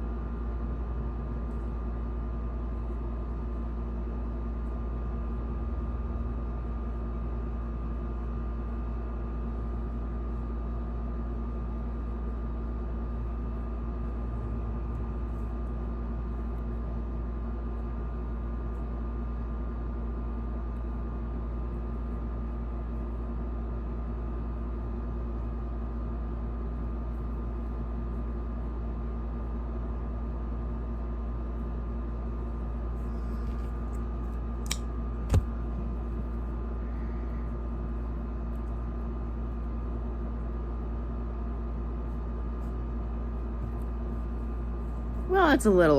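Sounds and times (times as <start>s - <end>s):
mechanical hum with drone: 0.0s - 45.9s.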